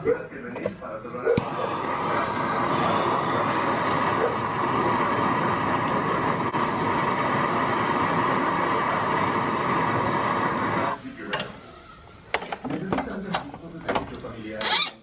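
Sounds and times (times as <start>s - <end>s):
steady mechanical noise: 1.4s - 14.6s.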